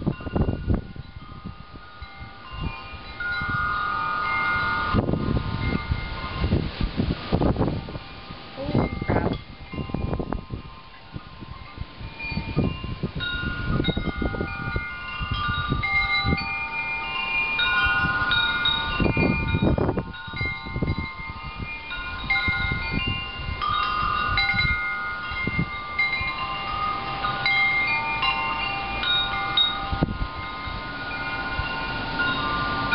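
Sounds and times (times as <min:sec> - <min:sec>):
metal wind chimes ringing: 0:00.0 - 0:32.9
wind rumble on microphone: 0:00.0 - 0:32.9.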